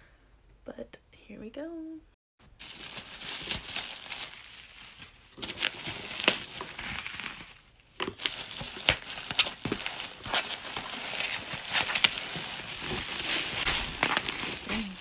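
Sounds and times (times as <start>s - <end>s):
packaging crinkling and crackling: 2.5s - 15.0s.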